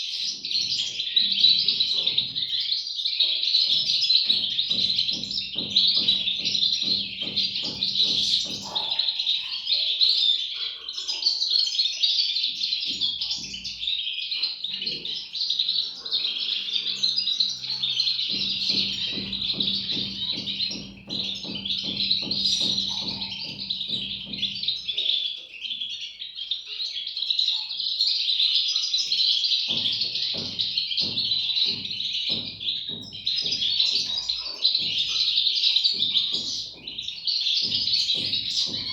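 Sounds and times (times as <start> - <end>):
bird chicks chirping: 0.0 - 38.9.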